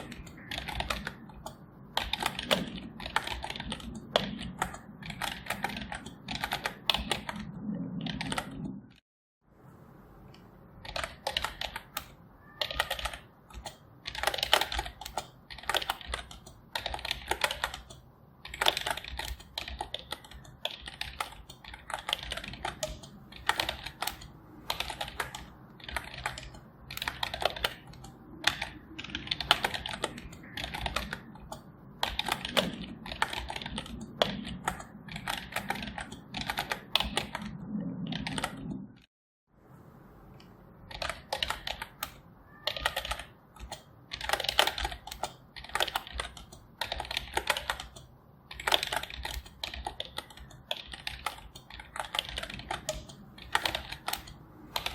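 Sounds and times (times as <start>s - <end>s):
typing on keyboard: 0.0s - 8.8s, 10.8s - 39.0s, 40.9s - 54.9s.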